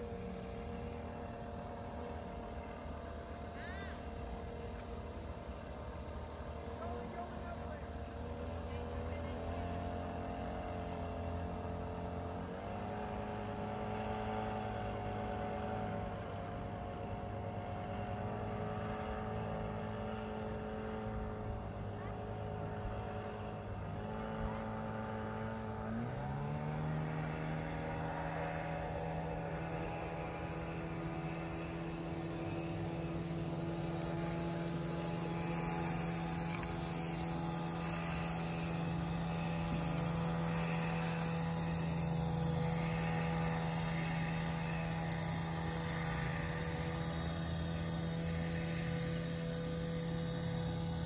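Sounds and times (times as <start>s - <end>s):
insects chorus: 0.0s - 51.0s
motorboat engine droning: 0.0s - 51.0s.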